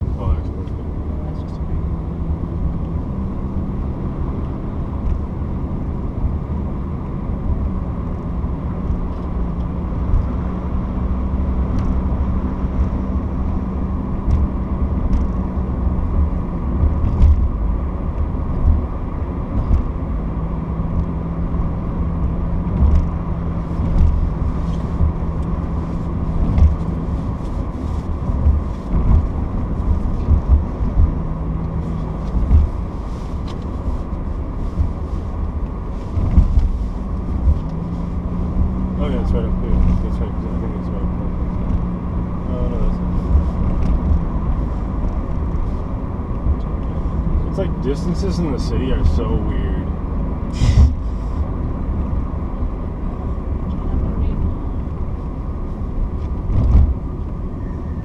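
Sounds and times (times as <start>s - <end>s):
vehicle rumbling: 0.0s - 58.0s.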